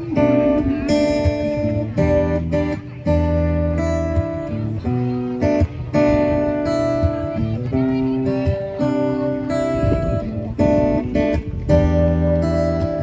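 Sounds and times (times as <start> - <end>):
bass line: 0.0 - 13.0
strummed guitar chords: 0.0 - 13.0.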